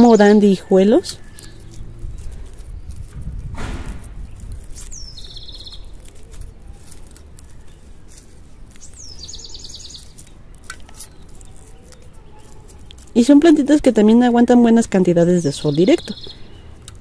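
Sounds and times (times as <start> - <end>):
small bird calling: 0.0 - 3.1, 4.2 - 17.0
crackles of roots and gravel: 0.0 - 17.0.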